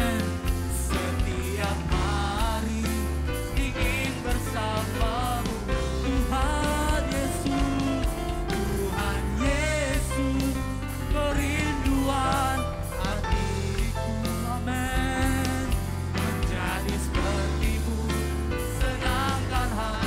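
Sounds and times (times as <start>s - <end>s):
worship music: 0.0s - 20.0s.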